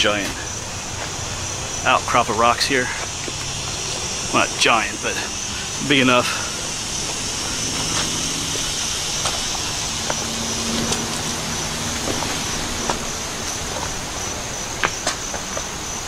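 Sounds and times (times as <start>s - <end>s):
distant road traffic: 0.0s - 16.0s
insects droning: 0.0s - 16.0s.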